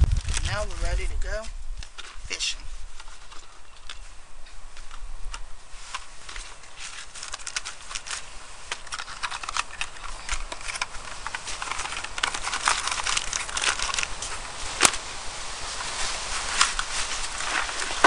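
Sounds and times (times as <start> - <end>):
crackling and rustling: 0.0 - 18.0.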